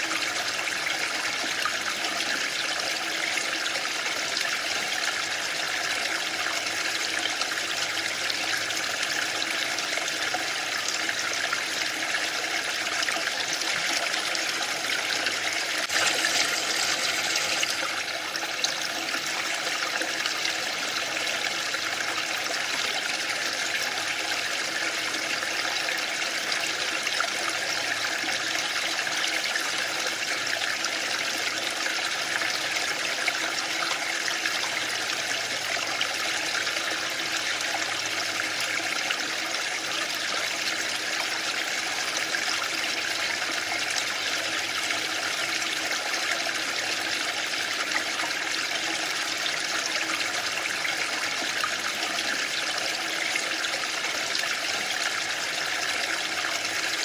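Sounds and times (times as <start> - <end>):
waterfall: 0.0 - 57.0.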